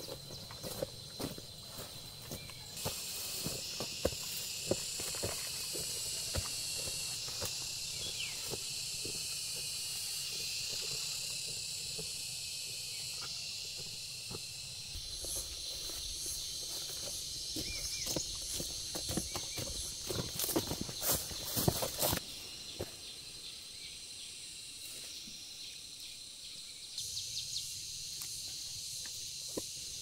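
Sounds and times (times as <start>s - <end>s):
insect chorus: 0.0s - 30.0s.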